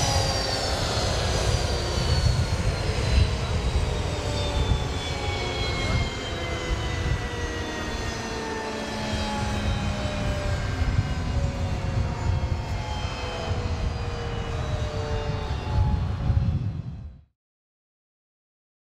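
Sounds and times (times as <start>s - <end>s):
jet engine rumbling and whining: 0.0s - 17.3s.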